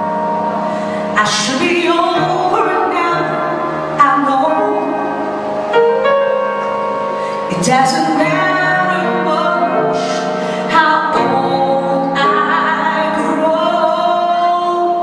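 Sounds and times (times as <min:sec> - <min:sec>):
woman singing ballad: 0:00.0 - 0:05.6, 0:07.2 - 0:15.0
instrumental accompaniment: 0:00.0 - 0:15.0.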